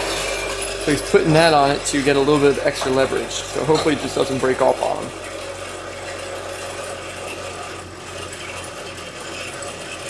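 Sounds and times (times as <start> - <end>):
small motor humming: 0.0 - 10.0.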